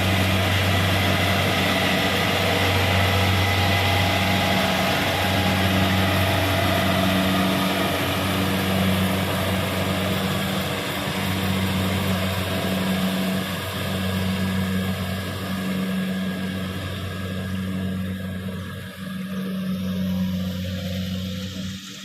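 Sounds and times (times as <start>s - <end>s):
combine harvester engine hum: 0.0s - 22.0s
mechanical rush: 0.0s - 22.0s.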